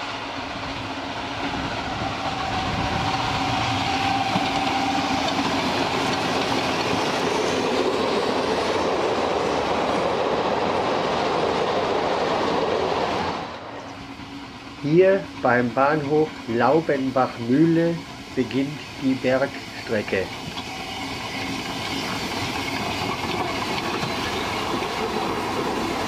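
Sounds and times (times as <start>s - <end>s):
steam train passing: 0.0s - 26.0s.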